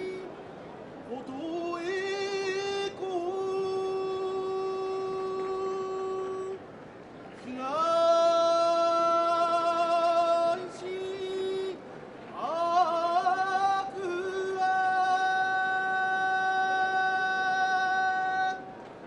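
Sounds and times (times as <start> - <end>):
person singing long held notes: 0.0 - 0.3, 1.1 - 6.6, 7.4 - 18.7.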